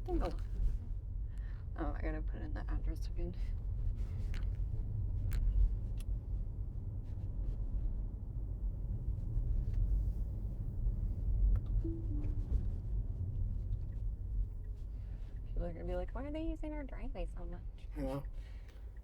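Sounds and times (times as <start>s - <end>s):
road noise rumble in car: 0.0s - 19.0s.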